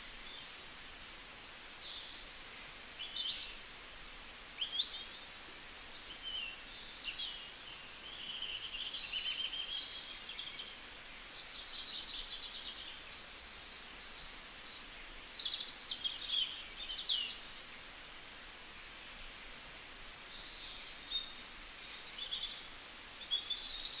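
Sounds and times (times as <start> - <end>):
birds chirping and twittering: 0.0 - 24.0
steady hiss: 0.0 - 24.0.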